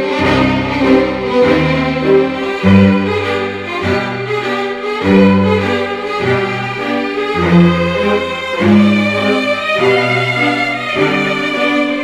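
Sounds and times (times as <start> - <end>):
bowed strings playing low notes: 0.0 - 12.0.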